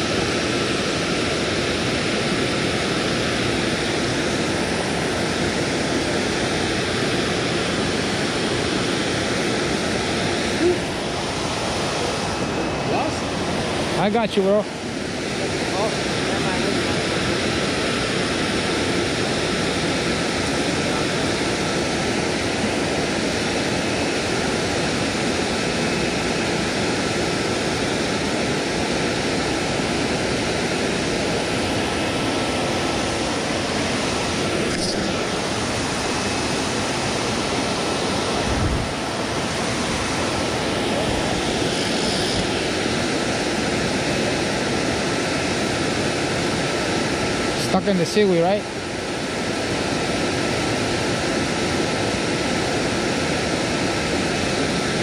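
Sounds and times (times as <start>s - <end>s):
water rushing over a spillway: 0.0s - 55.0s.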